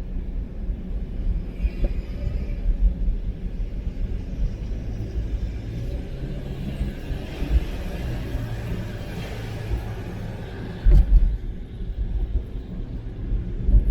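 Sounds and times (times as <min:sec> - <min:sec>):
car road and engine rumble: 0:00.0 - 0:13.9.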